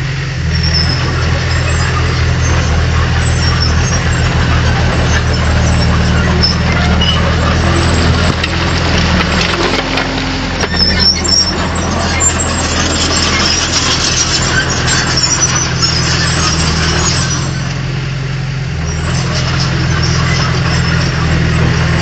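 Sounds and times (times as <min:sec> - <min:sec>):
bulldozer diesel engine running: 0:00.0 - 0:22.0
high metallic squeals: 0:00.4 - 0:17.9, 0:18.7 - 0:22.0.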